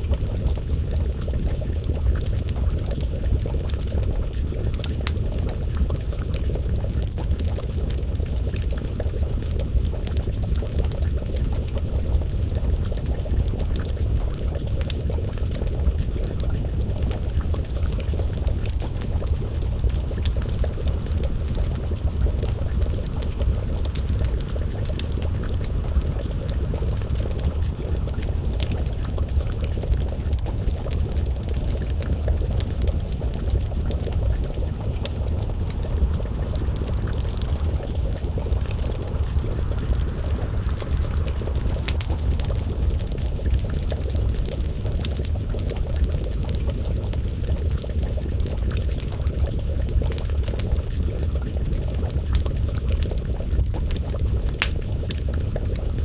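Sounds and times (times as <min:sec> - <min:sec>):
stew bubbling in a pot: 0:00.0 - 0:56.0
wood fire crackling: 0:00.0 - 0:56.0.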